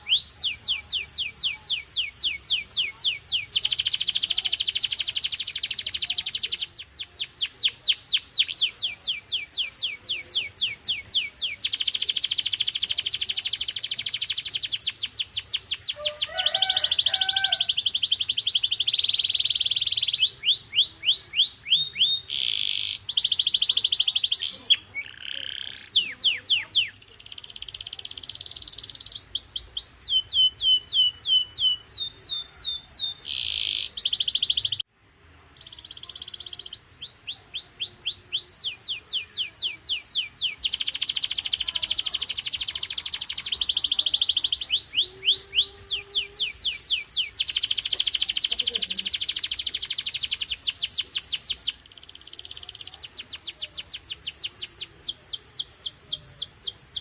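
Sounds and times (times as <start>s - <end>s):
canary singing trills: 0.0s - 34.9s, 35.5s - 57.0s.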